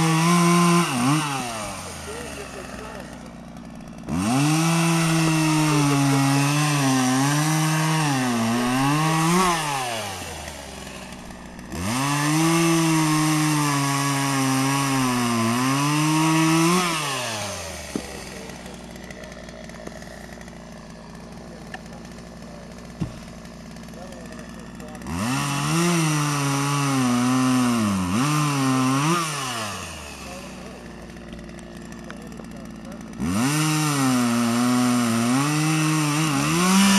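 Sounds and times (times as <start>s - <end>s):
chainsaw cutting logs: 0.0s - 36.9s.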